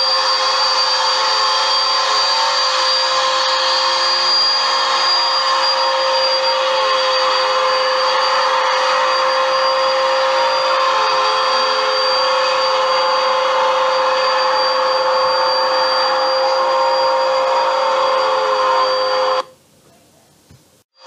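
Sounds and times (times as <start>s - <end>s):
vacuum cleaner running: 0.0s - 19.6s.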